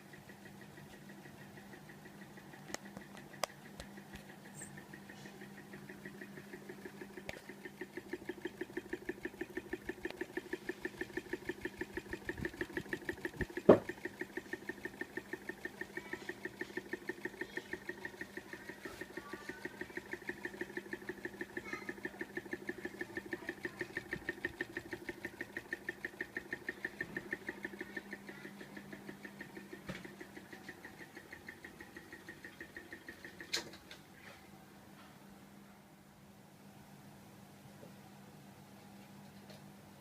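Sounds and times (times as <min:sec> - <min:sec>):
ceiling fan pulsing hum: 0:00.0 - 0:40.0.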